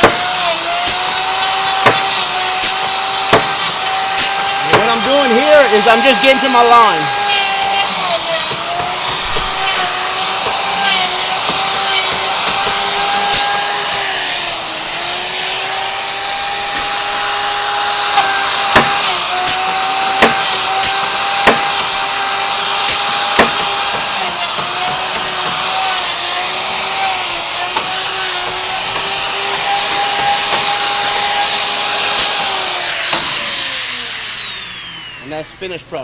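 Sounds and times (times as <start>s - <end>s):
router whining: 0.0s - 36.0s.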